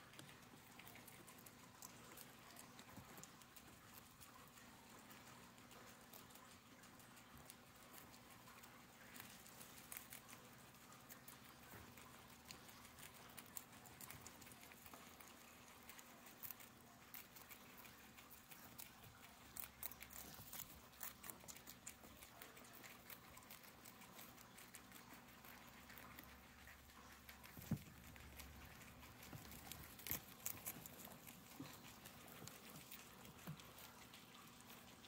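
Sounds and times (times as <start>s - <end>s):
guinea pigs chewing: 0.0s - 35.0s.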